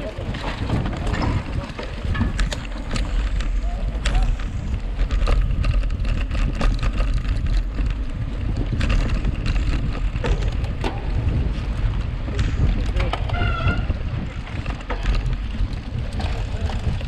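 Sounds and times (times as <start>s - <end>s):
bike clicks and rattles: 0.0s - 17.0s
wind rumbling on microphone: 0.0s - 17.0s.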